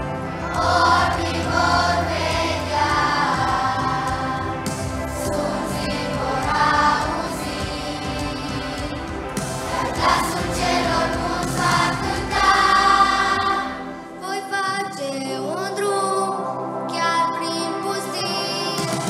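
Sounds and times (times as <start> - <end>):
children's choir singing a hymn: 0.0 - 19.0.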